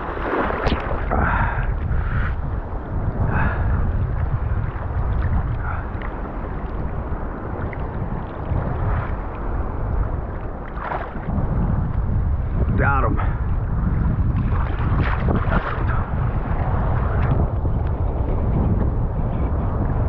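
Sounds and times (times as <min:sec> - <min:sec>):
surf washing and breaking: 0:00.0 - 0:20.0
wind rumble on microphone: 0:00.0 - 0:20.0.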